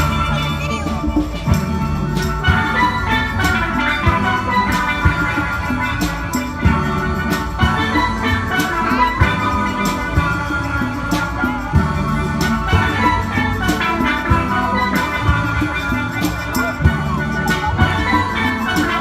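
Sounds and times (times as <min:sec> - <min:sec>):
drum beat: 0:00.0 - 0:19.0
steelpans playing melody: 0:00.0 - 0:19.0.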